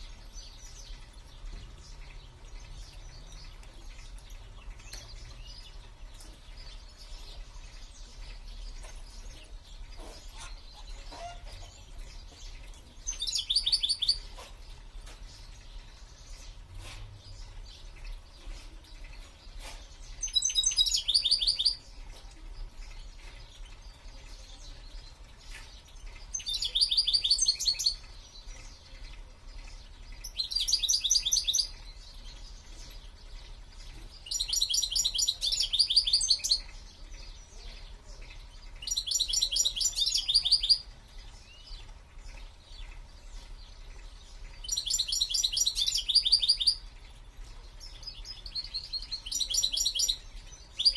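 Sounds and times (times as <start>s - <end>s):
soft bird chirps: 0.0s - 50.9s
songbird singing: 0.0s - 50.9s.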